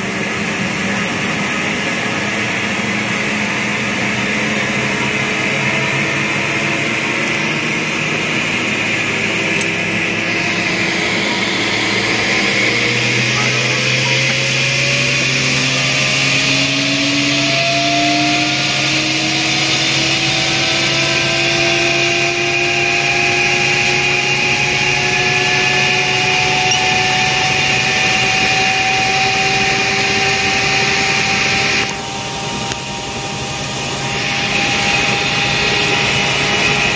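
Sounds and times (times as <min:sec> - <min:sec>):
helicopter turbine whine: 0:00.0 - 0:36.9.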